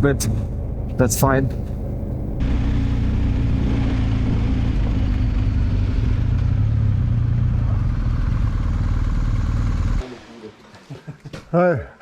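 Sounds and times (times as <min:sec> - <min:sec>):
wind and road noise: 0:00.0 - 0:10.0
motorcycle engine running: 0:00.0 - 0:10.4.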